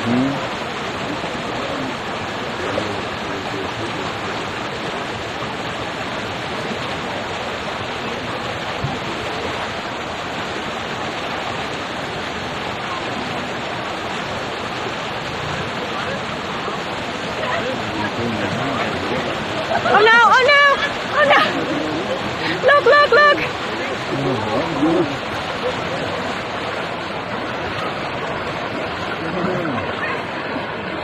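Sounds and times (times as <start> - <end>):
elephants splashing in water: 0.0 - 31.0
flowing river water: 0.0 - 31.0.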